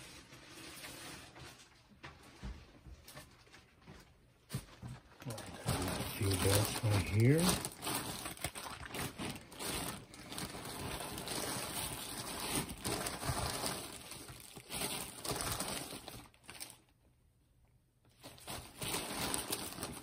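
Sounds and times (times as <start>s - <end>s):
rustling rubber belts and parts: 0.0s - 17.0s, 18.0s - 20.0s.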